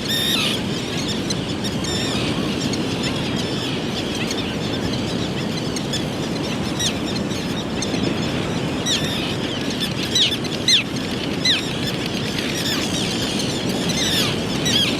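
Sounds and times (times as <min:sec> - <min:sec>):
small birds chirping: 0:00.0 - 0:14.9
steady background noise: 0:00.0 - 0:14.9.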